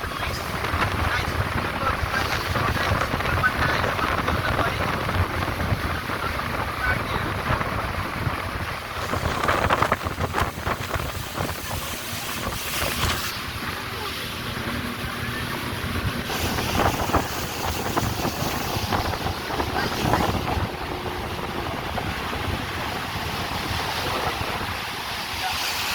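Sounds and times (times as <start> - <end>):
rushing water and spray: 0.0 - 25.9
wind buffeting microphone: 0.0 - 25.9.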